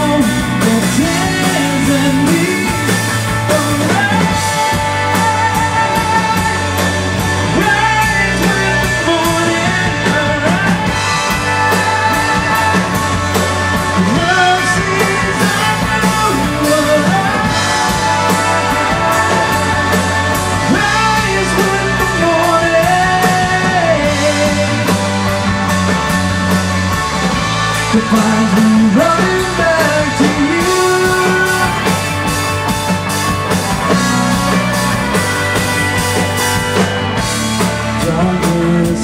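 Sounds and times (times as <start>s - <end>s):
person singing: 0.0s - 25.0s, 27.8s - 32.6s, 36.5s - 39.0s
live rock band playing: 0.0s - 39.0s.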